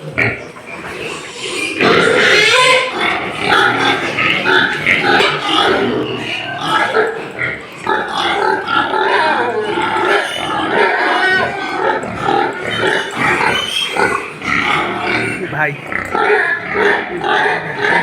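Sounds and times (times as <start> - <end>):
pigs grunting and squealing: 0.0 - 18.0.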